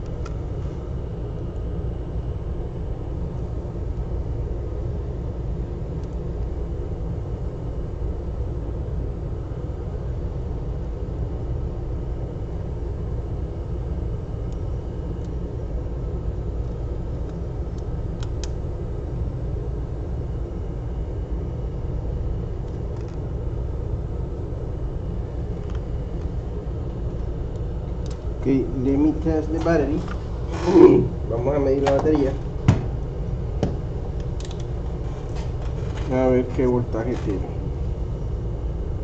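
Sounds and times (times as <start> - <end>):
low rumbling background noise: 0.0 - 39.0.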